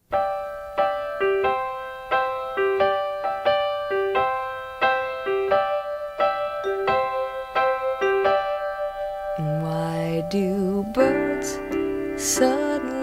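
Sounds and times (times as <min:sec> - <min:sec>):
instrumental piano music: 0:00.0 - 0:13.0.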